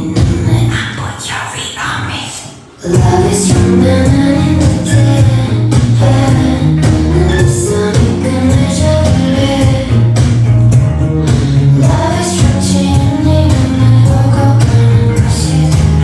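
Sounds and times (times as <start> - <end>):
pop music with heavy bass: 0.0 - 16.0.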